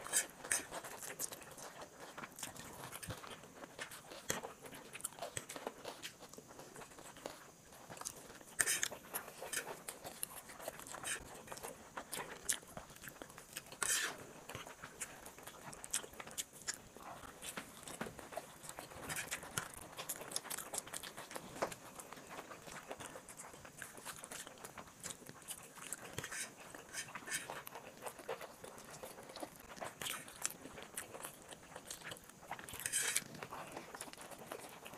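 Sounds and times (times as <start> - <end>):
chewing and slurping: 0.0 - 34.9.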